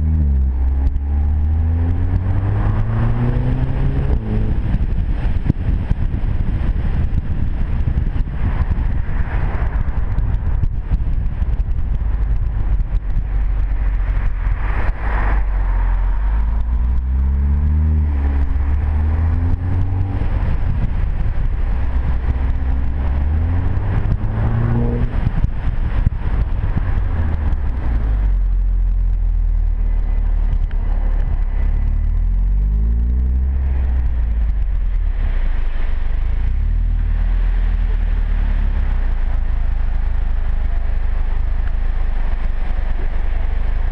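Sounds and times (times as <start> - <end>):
car engine and exhaust accelerating: 0.0 - 43.9
road and wind noise: 0.0 - 43.9.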